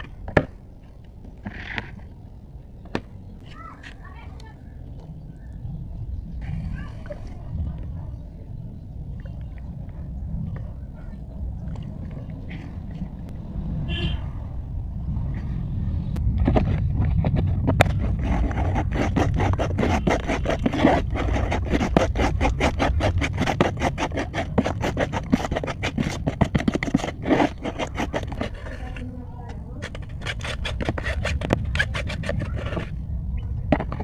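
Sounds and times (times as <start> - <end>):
low steady rumble: 4.1 - 34.0.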